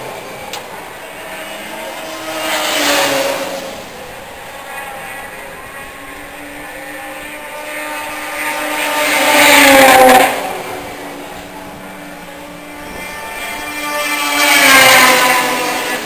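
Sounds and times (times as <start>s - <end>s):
second snowmobile approaching: 0.0s - 16.0s
snowmobile engine passing by: 0.0s - 16.0s.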